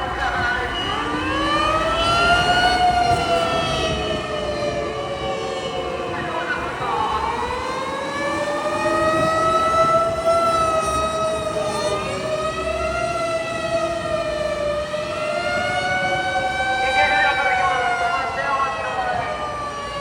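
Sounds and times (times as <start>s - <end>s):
fire engine sirens wailing: 0.0s - 20.0s.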